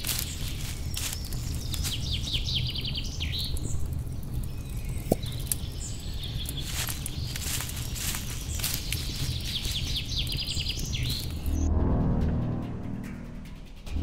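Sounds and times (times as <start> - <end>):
footsteps in dry leaves: 0.0 - 11.7
small bird chirping trill: 0.0 - 11.7
steady low rumble: 0.0 - 14.0.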